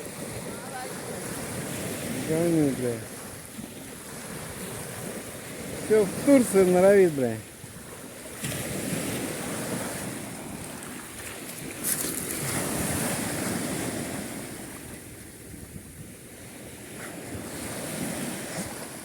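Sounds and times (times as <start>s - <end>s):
sea surf washing ashore: 0.0s - 19.0s
wind on microphone: 0.0s - 19.0s.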